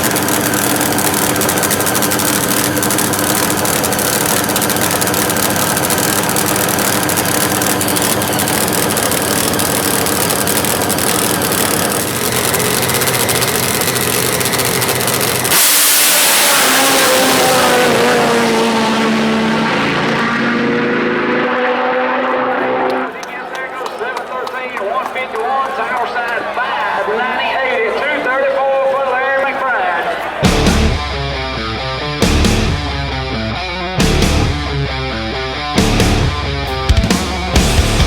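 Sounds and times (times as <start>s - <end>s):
hissing engine note: 0.0s - 23.1s, 30.4s - 38.0s
motorcycle engines running: 0.0s - 23.2s, 30.4s - 38.0s.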